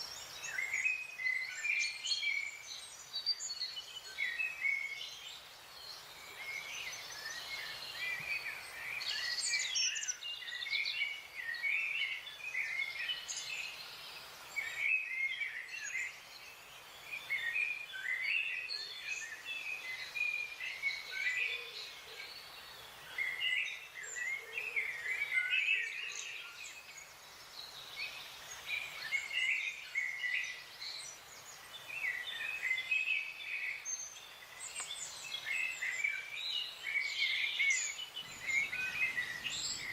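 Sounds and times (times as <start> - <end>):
birds singing and chirping: 0.0 - 39.9
faint steady hiss: 0.0 - 39.9.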